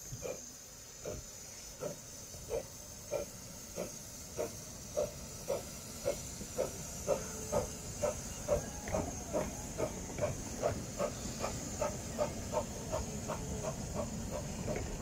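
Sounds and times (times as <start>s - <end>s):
steam hissing: 0.0s - 15.0s
steam locomotive exhaust chuffs: 0.0s - 15.0s.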